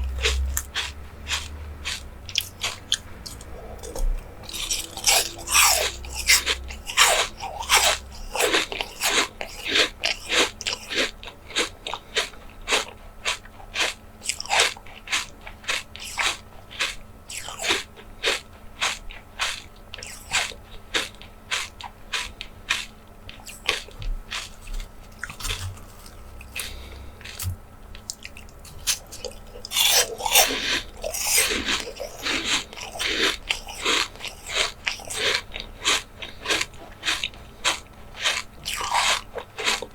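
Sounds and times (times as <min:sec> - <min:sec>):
crunchy bites: 0:00.0 - 0:39.9
wet clicky chewing: 0:00.0 - 0:39.9.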